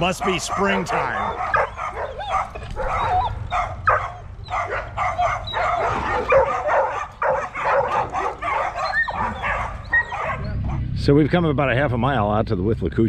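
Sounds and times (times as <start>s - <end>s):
dogs barking and yipping: 0.0s - 10.9s.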